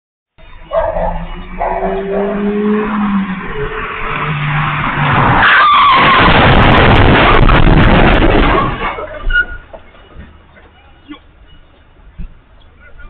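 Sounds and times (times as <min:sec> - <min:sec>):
tyres skidding: 0:00.4 - 0:13.0.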